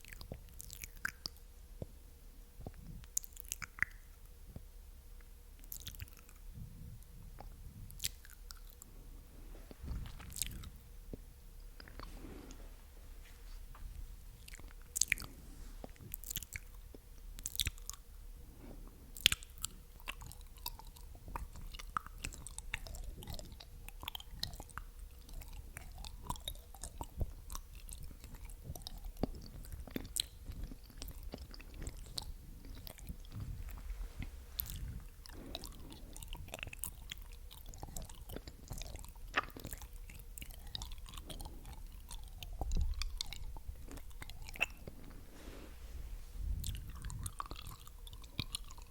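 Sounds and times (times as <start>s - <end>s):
wet mouth clicks and smacks: 0.0s - 1.9s, 2.6s - 4.7s, 5.6s - 6.4s, 7.4s - 8.9s, 9.8s - 11.2s, 14.4s - 18.0s, 19.2s - 45.2s, 46.4s - 48.9s.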